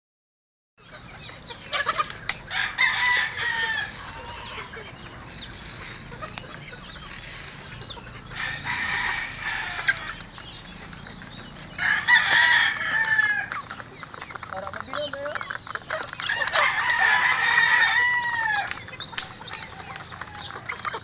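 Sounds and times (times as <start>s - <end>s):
chickens crowing and clucking: 0.8s - 21.0s.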